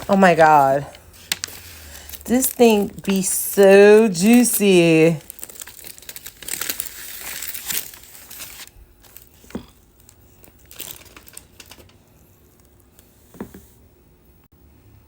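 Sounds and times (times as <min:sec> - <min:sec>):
paper wrapper crinkling: 0:00.0 - 0:13.5.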